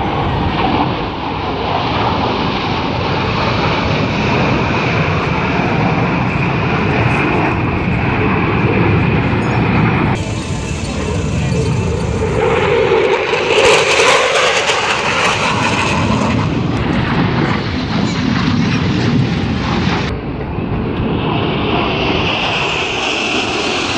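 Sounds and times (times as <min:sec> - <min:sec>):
jet engine roar: 0:00.0 - 0:23.9.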